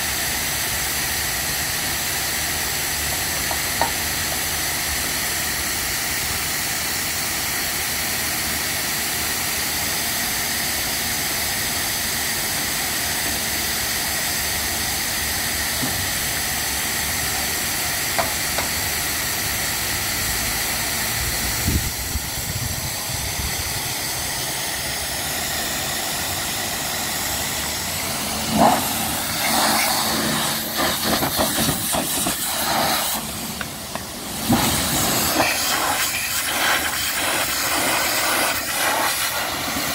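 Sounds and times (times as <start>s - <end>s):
pressure washer spraying water: 0.0s - 39.9s
thin steady whine: 0.0s - 39.9s.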